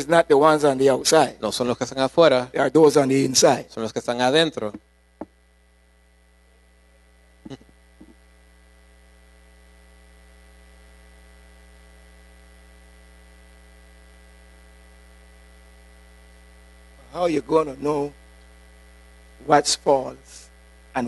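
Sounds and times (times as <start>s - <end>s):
electrical mains hum: 0.0s - 21.0s
faint high whine: 0.0s - 21.0s.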